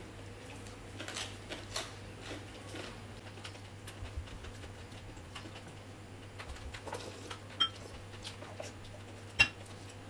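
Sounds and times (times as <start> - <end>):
chewing: 0.4 - 10.0.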